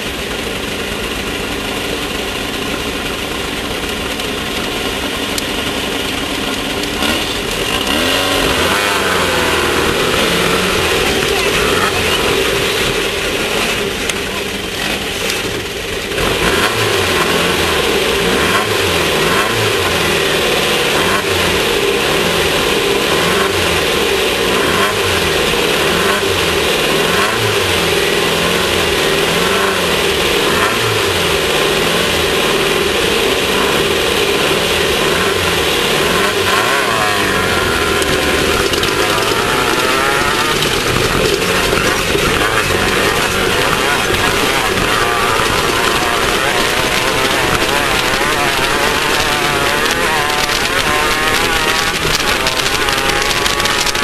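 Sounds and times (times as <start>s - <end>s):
race car engine revving: 0.0s - 54.0s
steady noisy rush: 0.0s - 54.0s.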